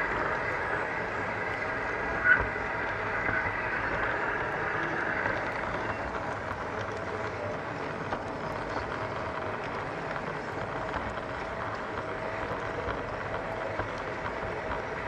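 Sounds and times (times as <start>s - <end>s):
faint motor whine: 0.0s - 15.0s.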